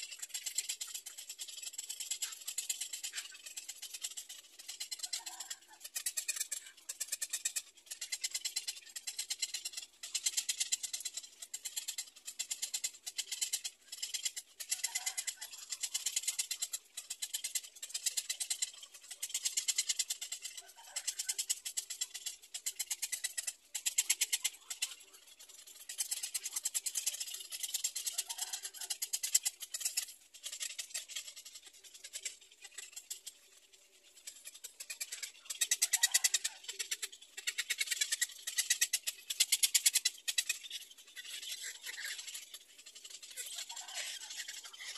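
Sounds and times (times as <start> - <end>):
heron chicks ticking chatter: 0.0 - 44.9.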